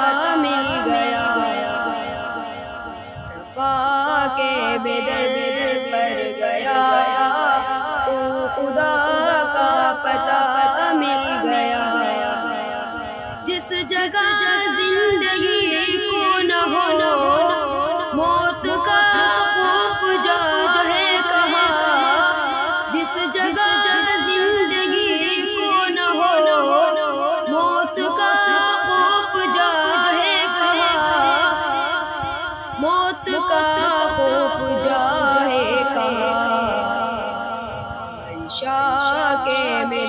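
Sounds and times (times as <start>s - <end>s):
a cappella choir singing: 0.0s - 40.0s
lower voice singing: 0.0s - 40.0s.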